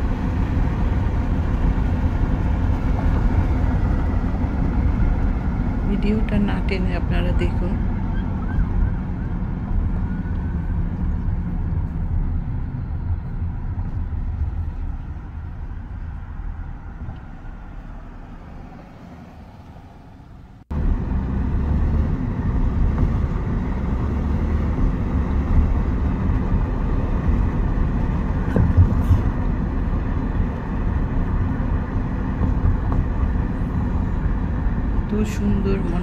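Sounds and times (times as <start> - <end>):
car road noise rumble: 0.0 - 36.0.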